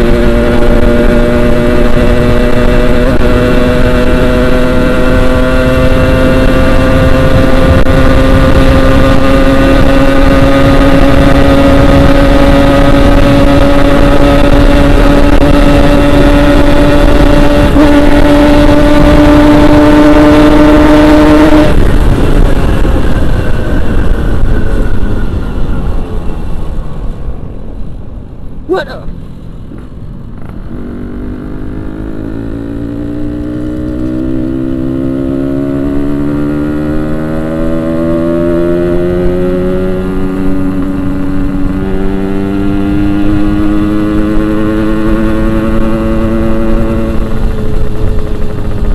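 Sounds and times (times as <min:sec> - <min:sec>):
motorcycle engine revving high: 0:00.0 - 0:27.8, 0:30.2 - 0:48.9.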